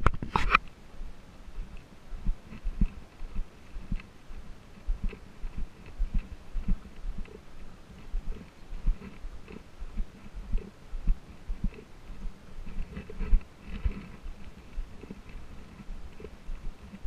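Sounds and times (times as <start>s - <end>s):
camera jostling thumps and rustling: 0.0s - 0.7s, 1.6s - 17.0s
footsteps on sandy dirt trail: 0.0s - 17.0s.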